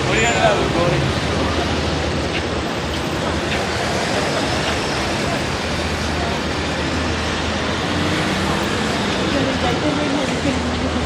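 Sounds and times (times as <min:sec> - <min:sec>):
faint voices: 0:00.0 - 0:11.0
road traffic passing: 0:00.0 - 0:11.0.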